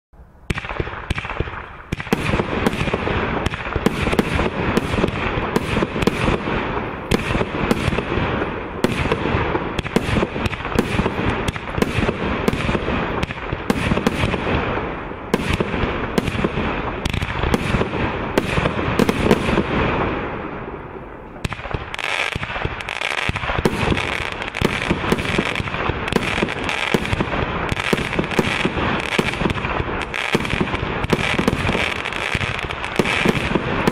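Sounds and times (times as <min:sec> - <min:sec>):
fireworks launches and bursts: 0:00.4 - 0:33.9.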